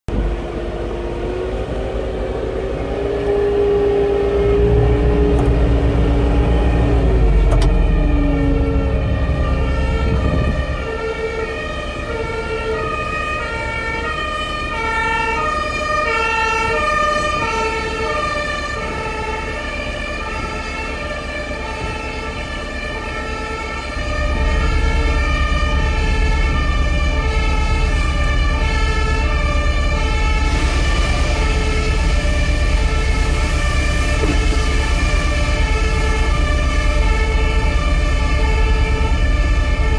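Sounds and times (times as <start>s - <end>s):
deep rumble: 0.1s - 39.9s
two-tone emergency siren: 0.1s - 39.9s.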